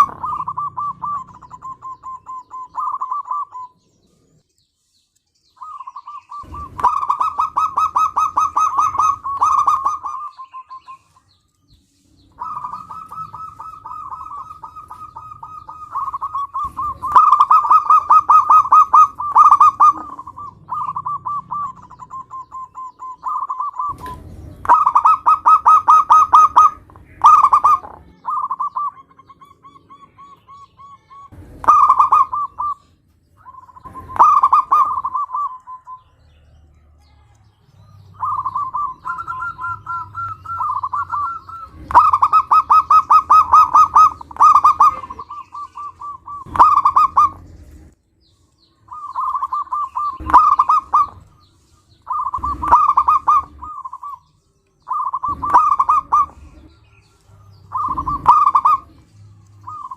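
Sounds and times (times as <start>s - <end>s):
dove cooing: 0.0s - 4.3s, 5.6s - 11.3s, 12.2s - 36.2s, 37.1s - 48.0s, 48.9s - 59.9s.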